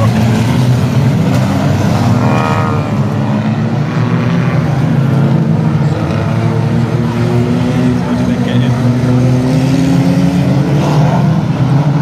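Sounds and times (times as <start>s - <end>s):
car engine revving: 0.0s - 12.0s
racing car engines droning: 0.0s - 12.0s.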